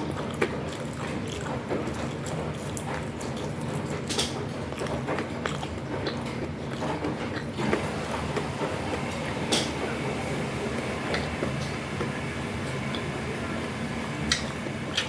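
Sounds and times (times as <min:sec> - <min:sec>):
crunchy chewing of fried food: 0:00.0 - 0:15.0.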